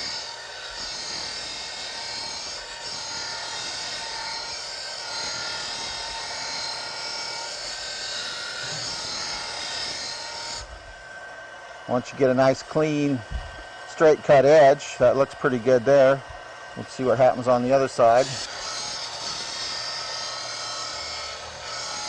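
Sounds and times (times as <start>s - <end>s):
electric grinder sharpening blade: 0.0s - 11.2s, 12.0s - 22.0s.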